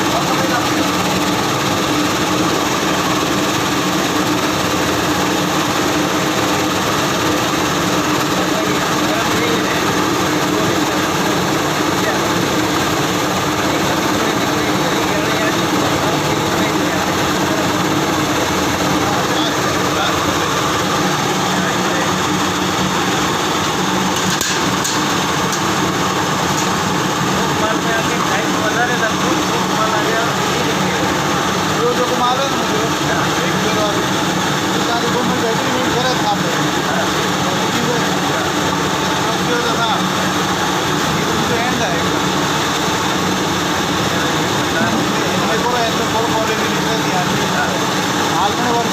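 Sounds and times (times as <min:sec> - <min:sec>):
washing machine motor hum and whine: 0:00.0 - 0:48.9.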